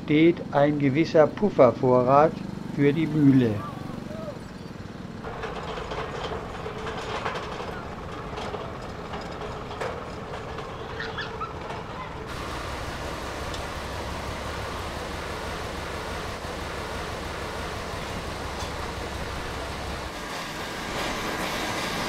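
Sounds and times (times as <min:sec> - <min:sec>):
train rumbling: 0:03.8 - 0:22.0.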